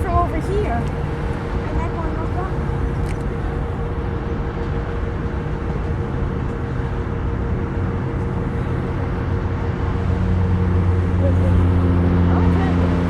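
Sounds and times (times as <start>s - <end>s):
freight train rolling to a stop: 0.0s - 13.0s.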